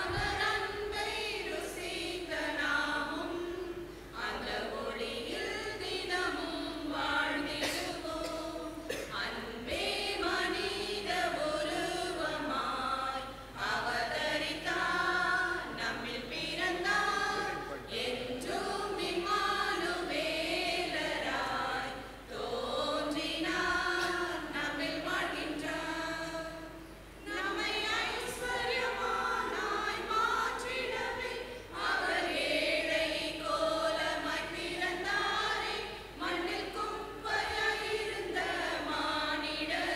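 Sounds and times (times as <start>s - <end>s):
choir singing a carol: 0.0s - 39.9s.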